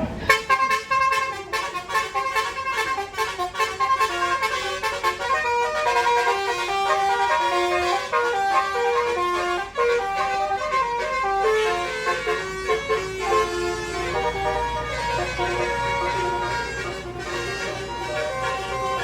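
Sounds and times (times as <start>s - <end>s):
bus musical horn playing a tune: 0.0s - 19.0s.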